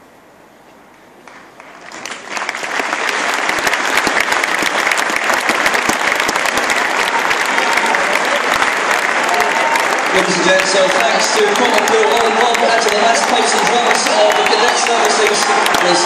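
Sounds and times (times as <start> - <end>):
stadium crowd clapping: 1.2 - 16.0.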